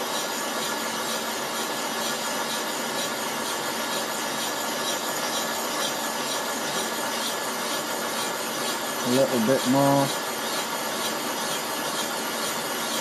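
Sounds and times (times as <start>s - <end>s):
cutter scraping hiss: 0.0s - 13.0s
milling machine hum: 0.0s - 13.0s.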